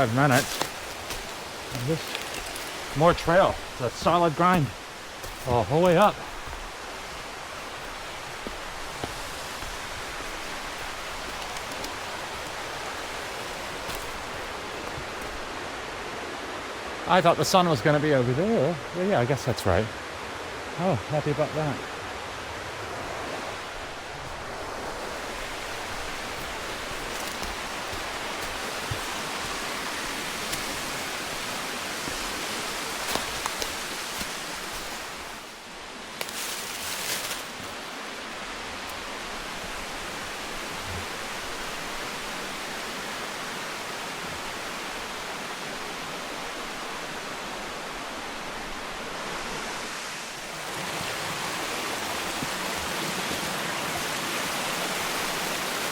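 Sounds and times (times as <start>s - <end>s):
creek rushing over rocks: 0.0s - 55.9s.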